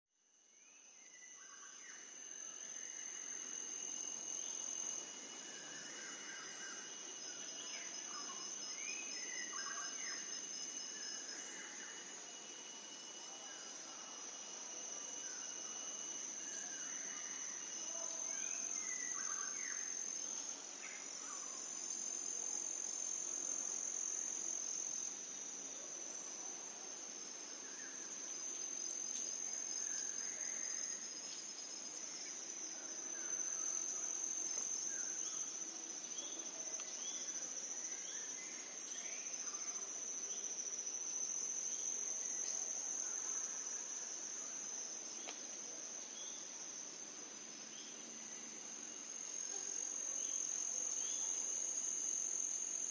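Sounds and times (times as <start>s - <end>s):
insects trilling drone: 0.3s - 52.9s.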